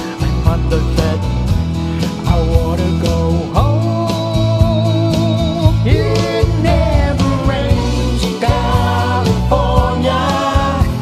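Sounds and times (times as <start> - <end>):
instrumental pop music: 0.0 - 11.0.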